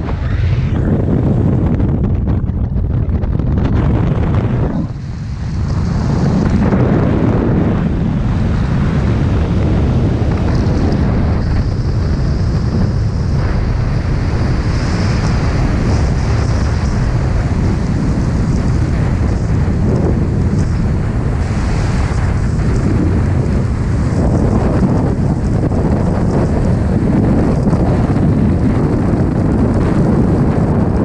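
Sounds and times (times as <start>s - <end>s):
freefall wind rushing: 0.0s - 31.0s.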